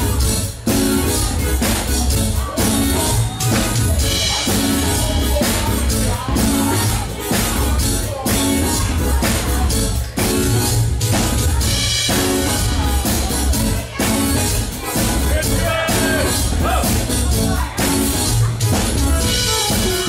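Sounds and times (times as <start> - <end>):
live band playing dance music: 0.0 - 20.0.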